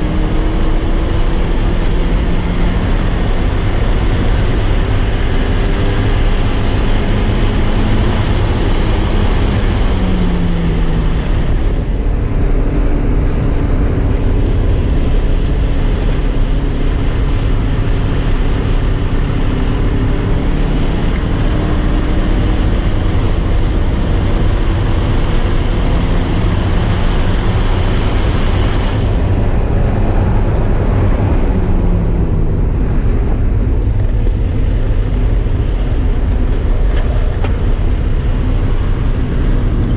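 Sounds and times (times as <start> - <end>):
four-cylinder engine running hard: 0.0 - 39.9
road noise: 0.0 - 39.9
wind noise: 0.0 - 39.9.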